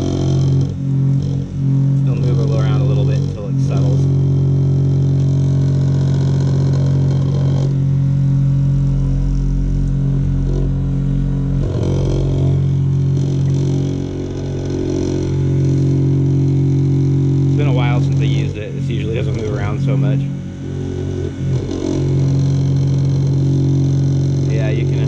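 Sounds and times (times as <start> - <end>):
deeper rumble: 0.0 - 25.0
flat lap machine humming: 0.0 - 25.0.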